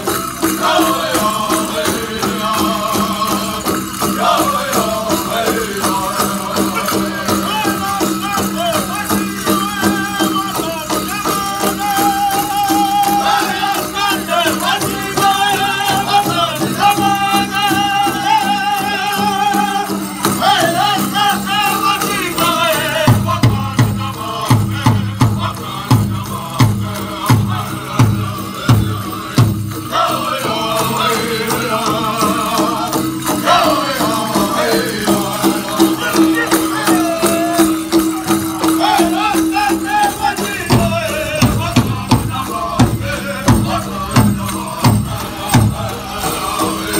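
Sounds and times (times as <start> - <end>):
high-pitched group singing: 0.0 - 46.9
steady drumbeat: 0.0 - 46.9.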